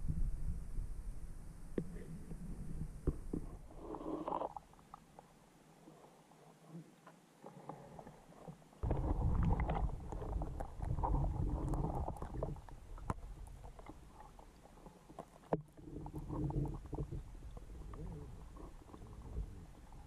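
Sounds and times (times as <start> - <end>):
muffled underwater creek gurgling: 0.0 - 20.0.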